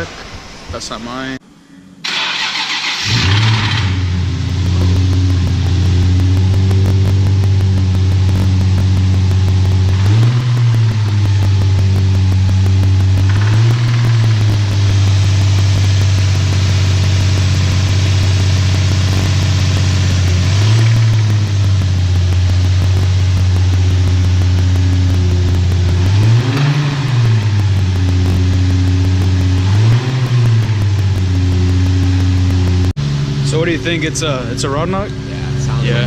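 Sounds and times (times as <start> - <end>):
car engine revving: 2.0 - 36.0
engine knocking: 2.6 - 32.9.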